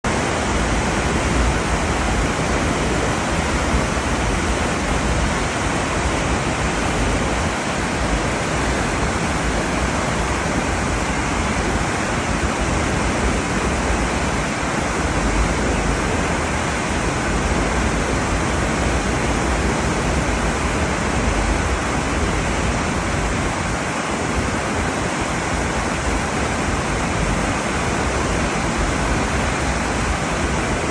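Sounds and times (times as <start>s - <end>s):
wind and sea rushing: 0.0s - 30.9s.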